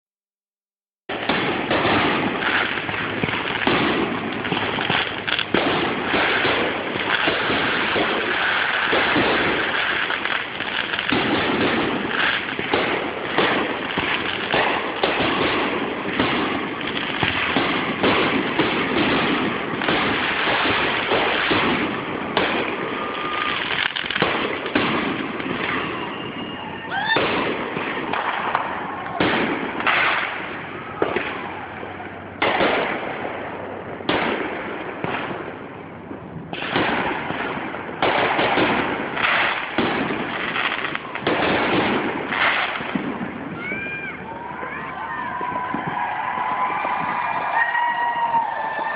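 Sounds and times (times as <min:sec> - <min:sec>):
fireworks bangs and crackling: 0:01.0 - 0:48.9
fireworks whistles: 0:01.1 - 0:35.5, 0:36.5 - 0:46.1.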